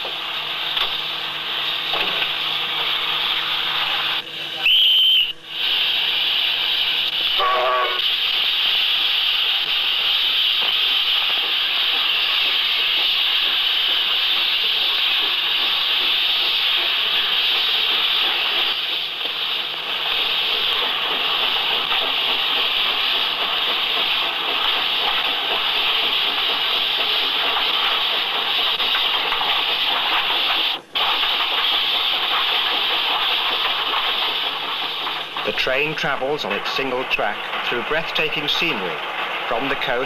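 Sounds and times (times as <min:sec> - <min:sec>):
loud steady hiss: 0:00.0 - 0:40.0.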